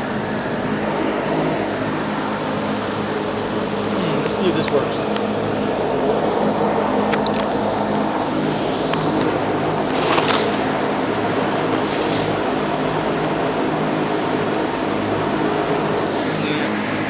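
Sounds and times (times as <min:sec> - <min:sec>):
hvac unit running: 0:00.0 - 0:17.0.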